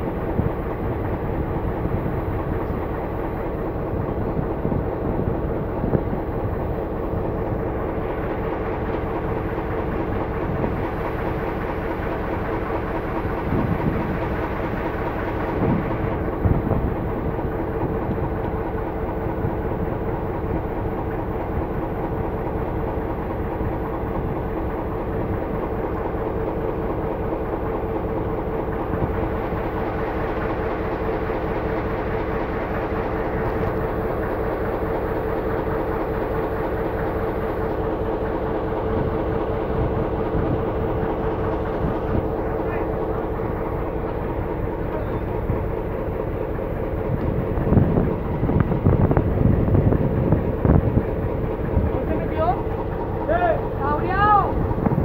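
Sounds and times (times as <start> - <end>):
diesel locomotive engine hum: 0.0 - 55.0.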